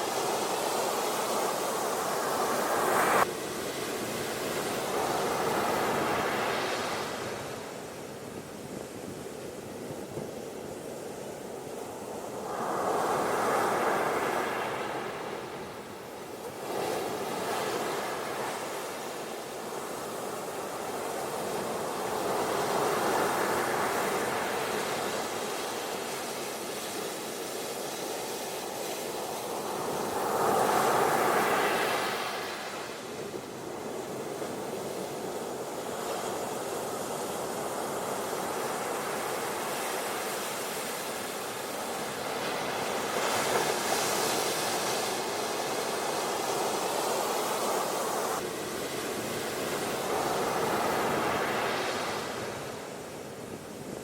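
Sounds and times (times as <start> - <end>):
ocean waves on a beach: 0.0 - 54.0.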